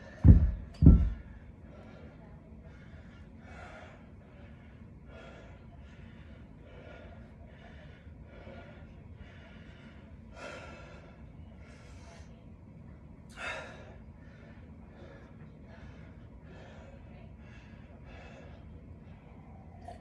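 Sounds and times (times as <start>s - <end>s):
man breathing hard: 0.0s - 12.3s, 13.3s - 20.0s.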